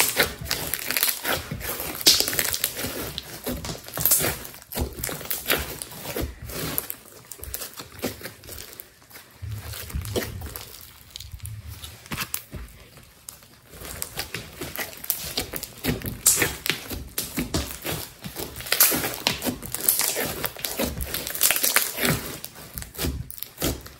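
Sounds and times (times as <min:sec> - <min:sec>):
slime crackling and squelching: 0:00.0 - 0:23.9.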